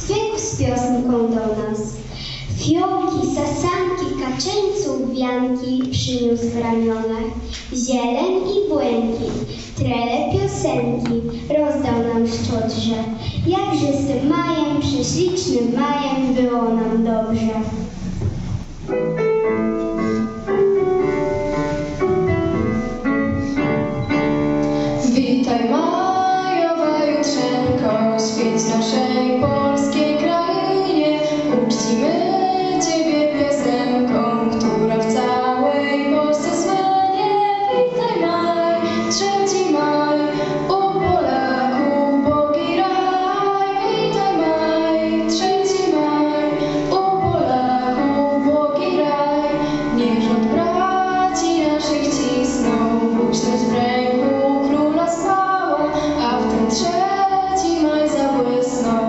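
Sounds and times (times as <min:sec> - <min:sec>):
child singing: 0:00.0 - 0:17.8, 0:25.0 - 0:59.0
instrumental accompaniment: 0:00.0 - 0:59.0.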